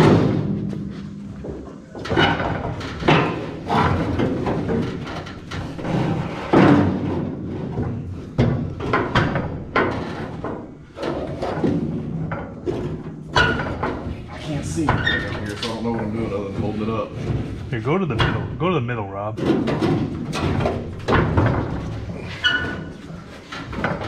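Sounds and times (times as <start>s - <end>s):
metal clunks and thuds: 0.0s - 18.8s, 19.4s - 24.0s.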